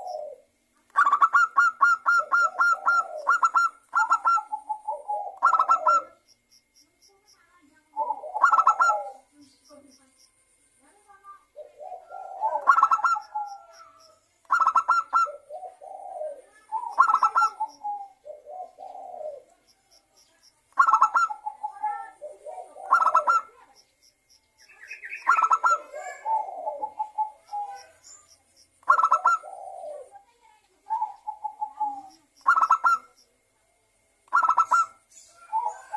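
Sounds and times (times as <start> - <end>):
dove cooing: 0.0 - 6.3, 7.8 - 9.4, 11.4 - 23.9, 24.9 - 33.5, 34.2 - 35.9.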